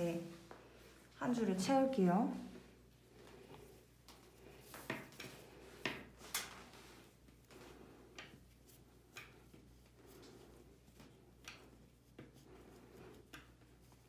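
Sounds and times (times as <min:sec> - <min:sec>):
cord rubbing and swishing: 0:02.4 - 0:14.0.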